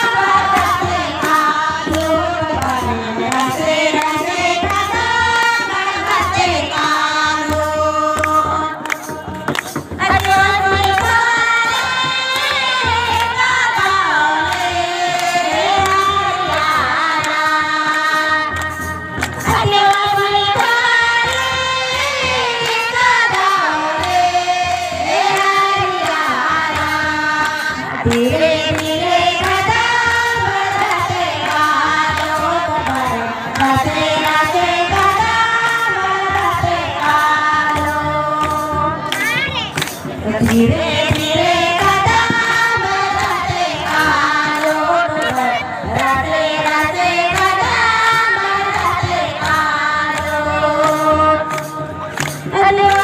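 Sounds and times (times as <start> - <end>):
hand clapping: 0.0 - 53.0
women singing devotional song: 0.0 - 53.0.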